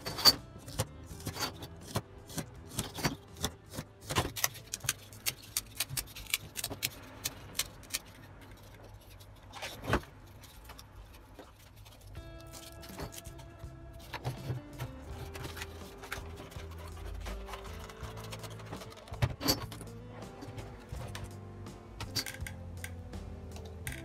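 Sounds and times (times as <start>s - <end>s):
craft knife and ruler on foam board: 0.0s - 21.3s.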